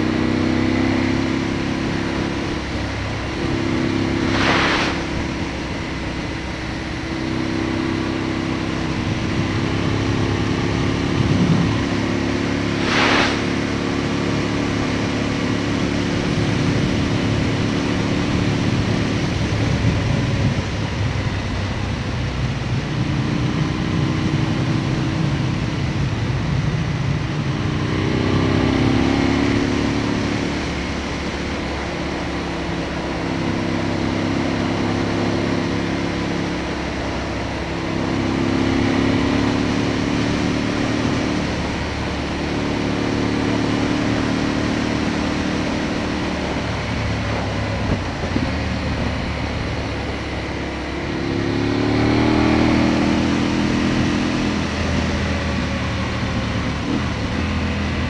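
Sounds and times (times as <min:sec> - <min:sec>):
motorcycle engine revving: 0:00.0 - 0:58.0
wind rushing on camera: 0:00.0 - 0:58.0.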